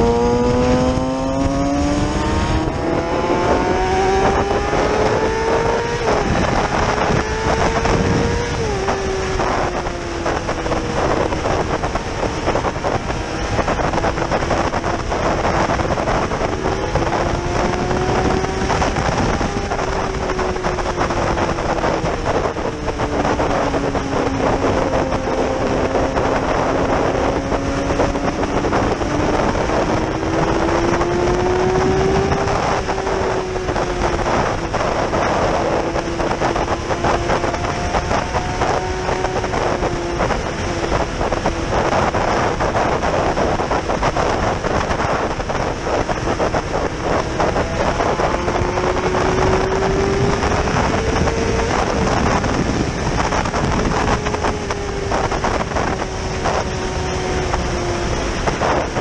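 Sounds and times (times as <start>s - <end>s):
motorcycle engine running at speed: 0.0s - 59.0s.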